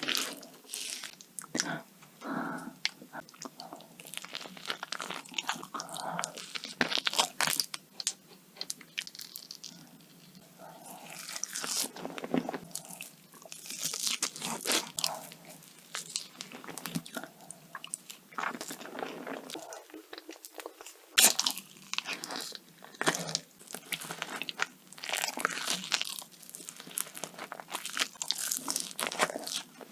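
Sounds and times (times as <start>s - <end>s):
crunchy food being chewed: 0.0s - 1.7s, 2.8s - 29.9s.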